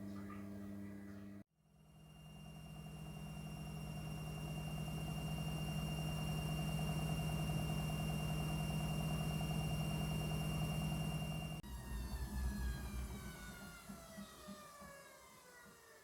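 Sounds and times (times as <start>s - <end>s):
washing machine motor hum: 0.0s - 15.1s.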